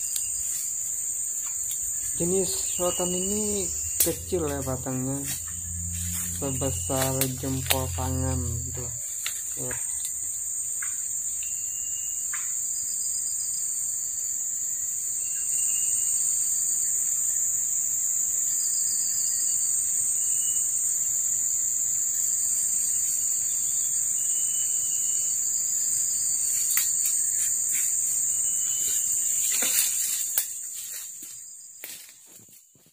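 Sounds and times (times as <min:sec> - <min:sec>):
forest insects droning: 0:00.0 - 0:32.9.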